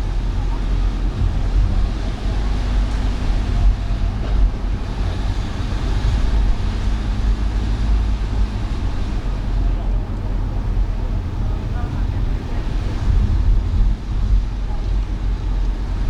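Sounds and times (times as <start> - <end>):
car road rumble: 0.0 - 16.0
hiss of wet tyres and rain: 0.0 - 16.0.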